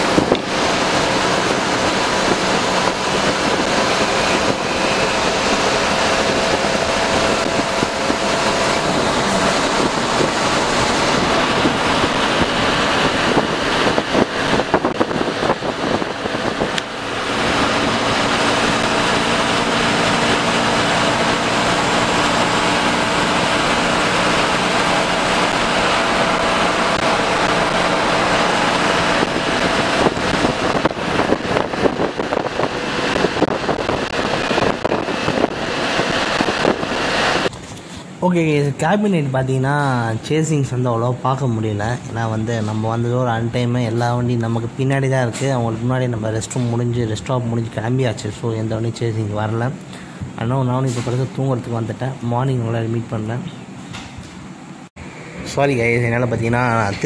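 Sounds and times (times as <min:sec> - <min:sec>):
bus engine hum: 0:00.0 - 0:57.0
road and wind noise: 0:00.0 - 0:57.0.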